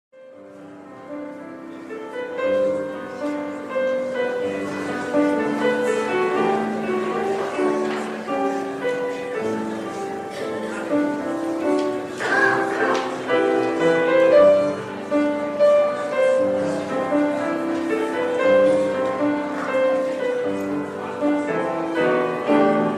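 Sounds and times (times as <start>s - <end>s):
piano music: 0.1s - 22.9s.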